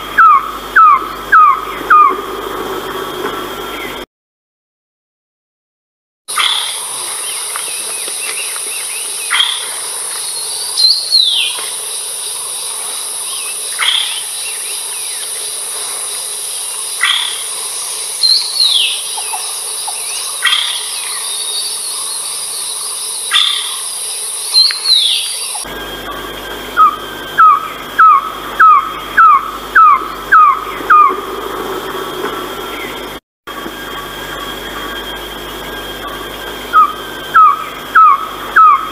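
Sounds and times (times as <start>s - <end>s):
bird calling: 0.0s - 3.0s, 6.3s - 33.2s, 33.8s - 38.9s
high insect drone: 0.0s - 4.1s, 6.3s - 38.9s.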